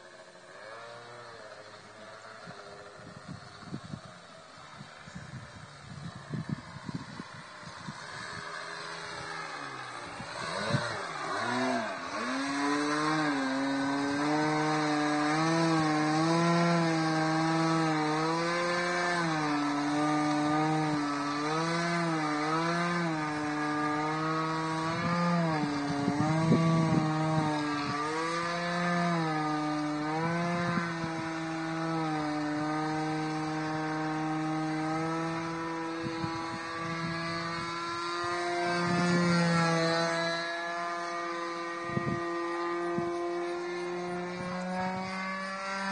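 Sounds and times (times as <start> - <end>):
model airplane engine buzzing: 0.0 - 45.9.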